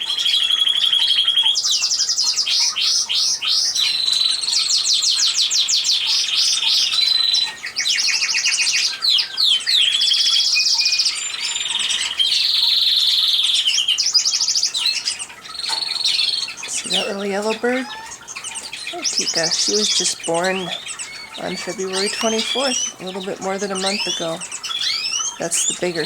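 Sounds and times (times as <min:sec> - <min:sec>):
canaries trilling: 0:00.0 - 0:26.0.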